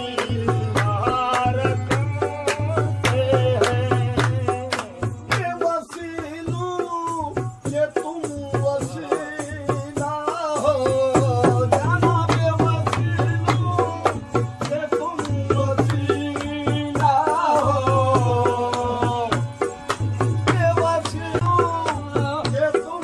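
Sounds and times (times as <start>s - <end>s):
tabla beating: 0.0s - 23.0s.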